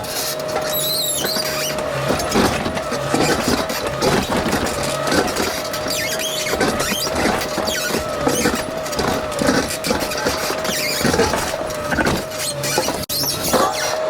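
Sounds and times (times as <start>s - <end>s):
excavator engine hum: 0.0s - 14.0s
high-pitched squeals: 0.0s - 14.0s.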